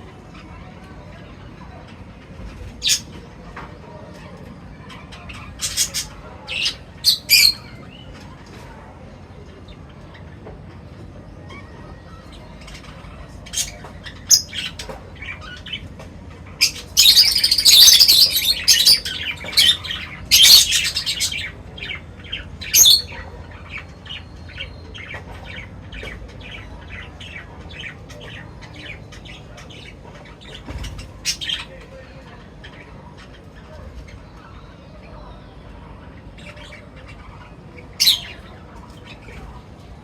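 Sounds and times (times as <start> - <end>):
small birds chirping: 0.0 - 40.0
birds harsh squawks: 1.8 - 3.4, 4.6 - 8.5, 11.3 - 40.0.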